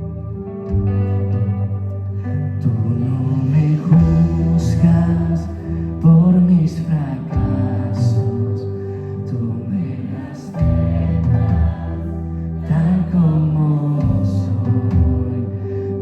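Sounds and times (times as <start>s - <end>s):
live band playing slow song: 0.0s - 16.0s.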